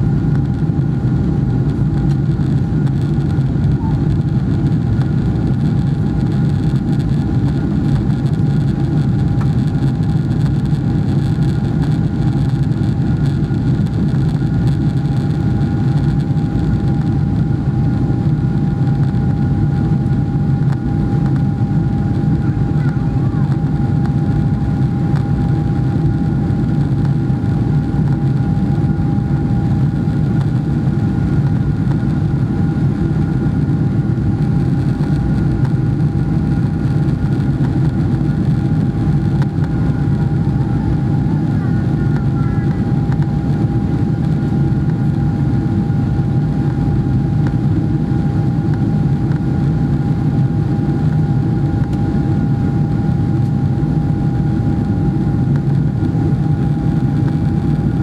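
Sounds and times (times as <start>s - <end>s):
faint steady whine: 0.0s - 58.0s
jet engine drone: 0.0s - 58.0s.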